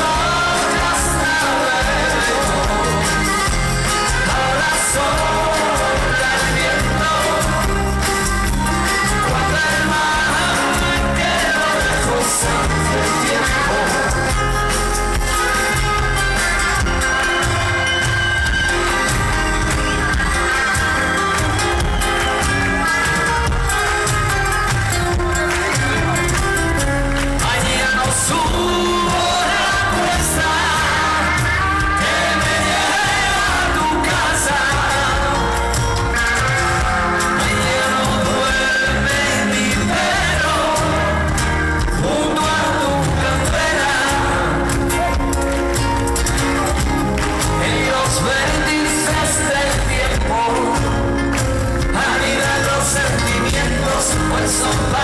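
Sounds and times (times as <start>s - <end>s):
lead singer singing: 0.0s - 22.5s, 25.5s - 45.8s, 46.4s - 55.0s
pop-rock band playing live: 0.0s - 55.0s.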